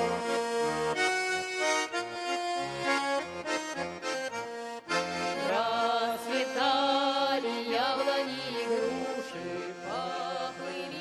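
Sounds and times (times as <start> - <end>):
accordion music: 0.0 - 11.0.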